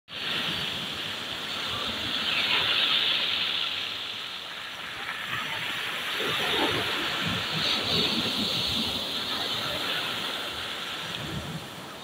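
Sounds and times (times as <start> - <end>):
waves washing over pebbles: 0.1 - 12.0.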